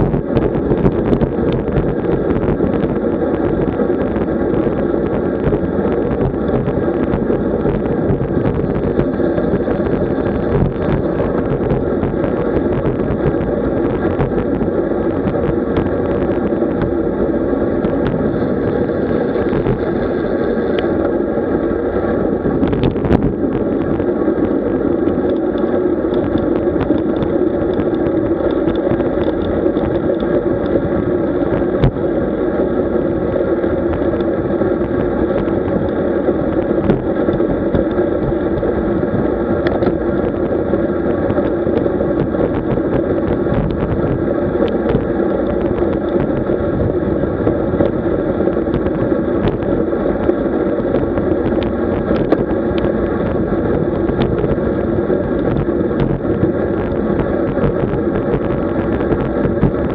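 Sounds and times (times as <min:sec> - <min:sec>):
bicycle road noise: 0:00.0 - 0:59.9
faint hum: 0:00.0 - 0:59.9
rushing wind: 0:00.0 - 0:59.9.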